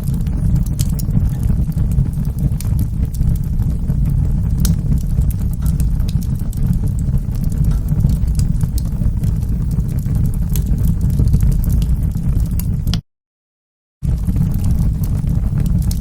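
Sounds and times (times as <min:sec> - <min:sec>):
wood fire crackling: 0:00.0 - 0:13.0, 0:14.0 - 0:16.0.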